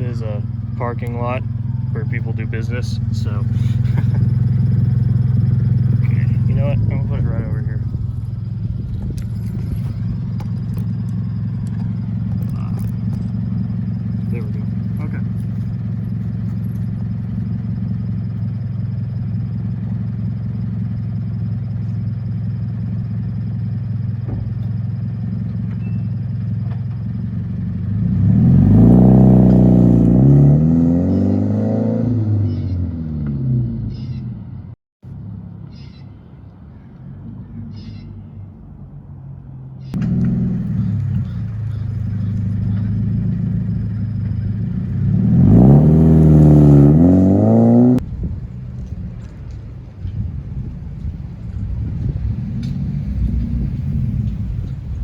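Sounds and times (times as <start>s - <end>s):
car exhaust accelerating hard: 0.0s - 25.6s, 26.4s - 34.1s, 40.0s - 55.0s
car engine idling: 0.0s - 30.4s, 33.9s - 55.0s.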